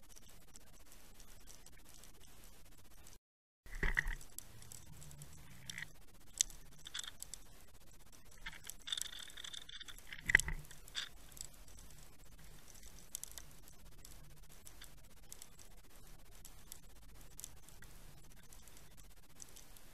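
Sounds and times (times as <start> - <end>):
underwater clicks and ticks: 0.0 - 19.9.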